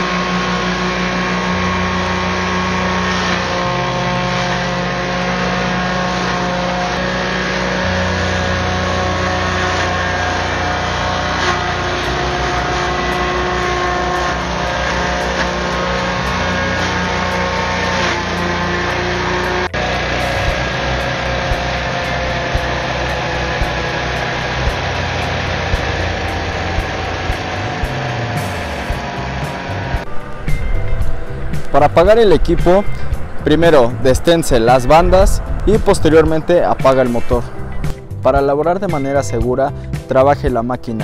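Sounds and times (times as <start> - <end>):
forage cutting noise: 0.0 - 41.0
small engine drone: 0.0 - 41.0.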